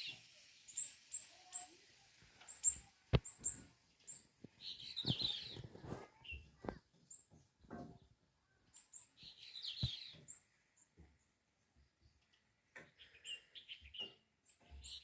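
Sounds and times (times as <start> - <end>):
small birds twittering: 0.0 - 15.0.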